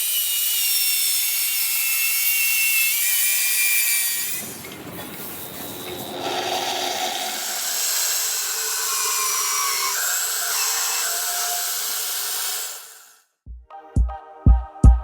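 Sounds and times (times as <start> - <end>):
power tool cutting wood: 0.0 - 13.2.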